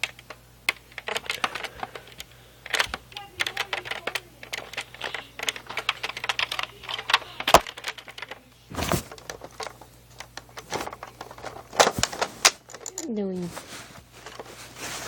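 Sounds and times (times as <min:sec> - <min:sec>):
plastic clicks and rattles: 0:00.0 - 0:13.2.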